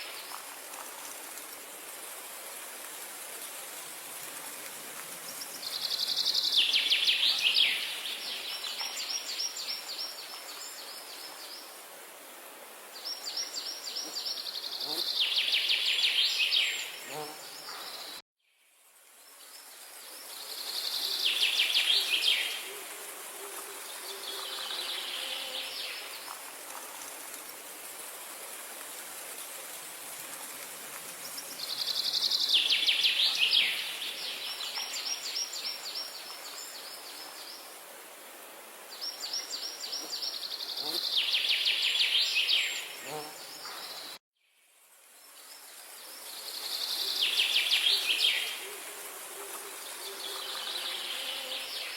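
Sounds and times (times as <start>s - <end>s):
high hiss of outdoor ambience: 0.0s - 51.9s.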